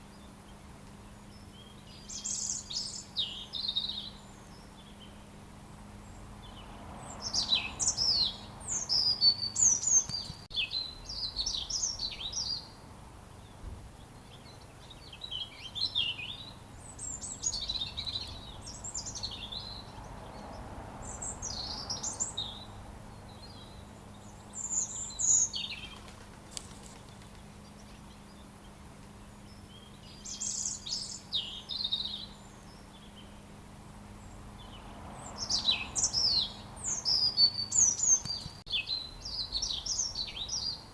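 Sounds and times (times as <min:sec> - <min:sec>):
robin singing: 0:00.0 - 0:05.3, 0:05.9 - 0:12.8, 0:13.4 - 0:40.9.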